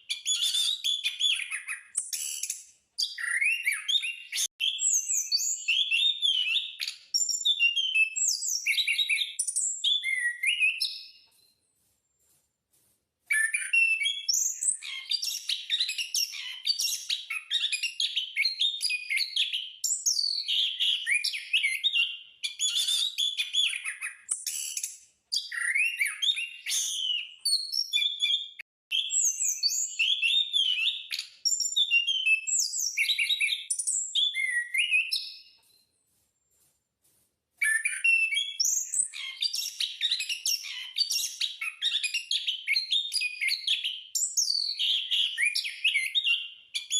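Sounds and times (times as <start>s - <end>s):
ground thrush singing: 0.1s - 11.5s, 13.3s - 35.8s, 37.6s - 46.9s.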